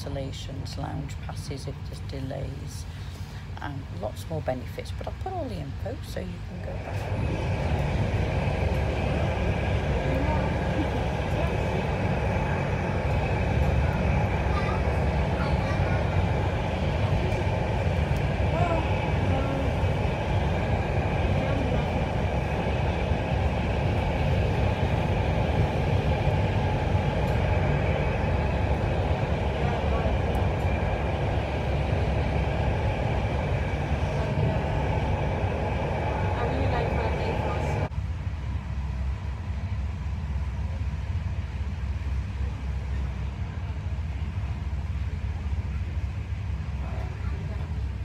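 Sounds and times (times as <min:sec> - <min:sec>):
train rumbling over bridge: 0:00.0 - 0:48.0.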